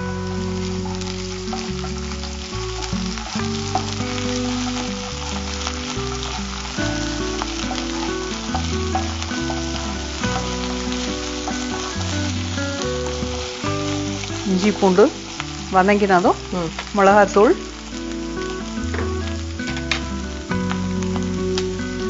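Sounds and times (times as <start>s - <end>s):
onions sizzling in oil: 0.0s - 22.0s
quiet background music: 0.0s - 22.0s.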